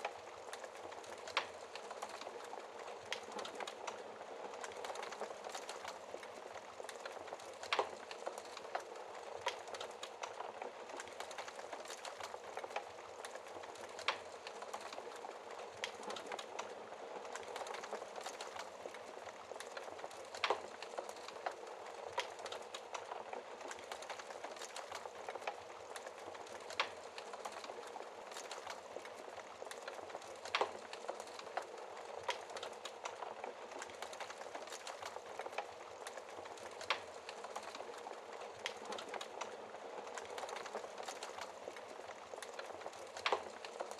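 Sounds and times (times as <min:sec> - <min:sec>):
fire crackling: 0:00.0 - 0:43.9.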